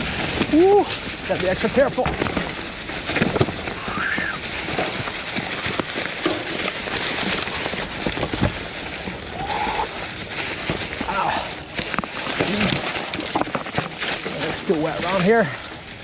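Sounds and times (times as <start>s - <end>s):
bike rattling over bumps: 0.0s - 16.0s
bike tyres crackling through leaves: 0.0s - 16.0s.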